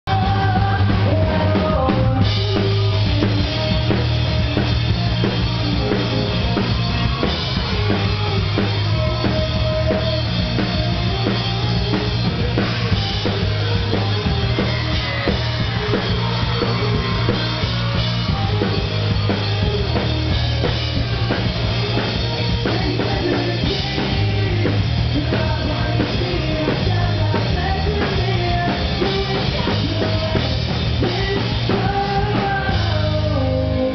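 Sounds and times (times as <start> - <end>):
drum kit: 0.0 - 33.9
pop-punk band playing live: 0.0 - 33.9.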